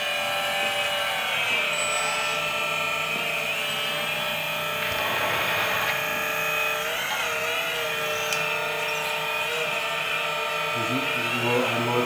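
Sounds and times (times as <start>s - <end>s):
hydraulic pumps whining: 0.0s - 12.0s.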